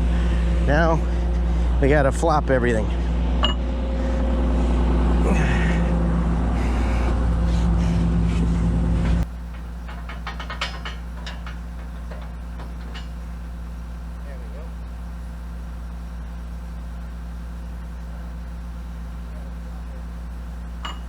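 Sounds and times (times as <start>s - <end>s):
excavator diesel engine running: 3.0s - 21.0s.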